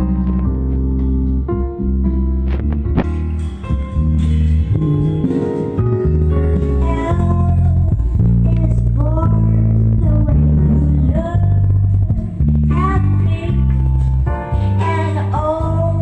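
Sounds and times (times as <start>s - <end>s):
music with heavy bass and guitar: 0.0s - 16.0s.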